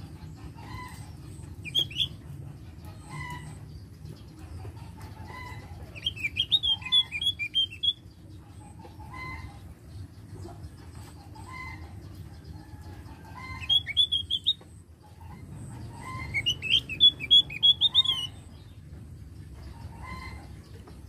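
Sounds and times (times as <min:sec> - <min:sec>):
bird chattering song: 0:00.0 - 0:21.0.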